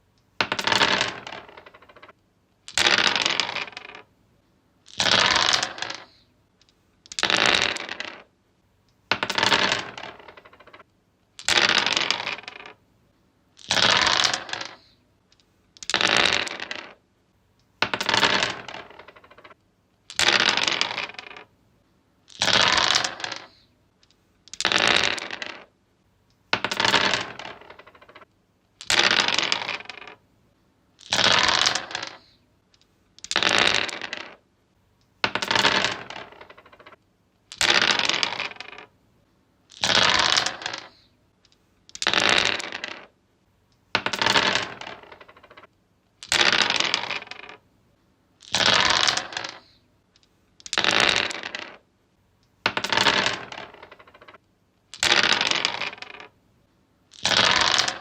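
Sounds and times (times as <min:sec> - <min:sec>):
dice rolling on wooden surface: 0:00.4 - 0:04.1, 0:04.8 - 0:08.3, 0:09.0 - 0:12.8, 0:13.6 - 0:15.0, 0:15.8 - 0:17.0, 0:17.7 - 0:21.5, 0:22.3 - 0:25.8, 0:26.5 - 0:30.2, 0:31.0 - 0:34.4, 0:35.1 - 0:39.0, 0:39.7 - 0:41.1, 0:41.9 - 0:43.2, 0:43.8 - 0:47.6, 0:48.4 - 0:51.9, 0:52.5 - 0:56.4, 0:57.1 - 0:58.0.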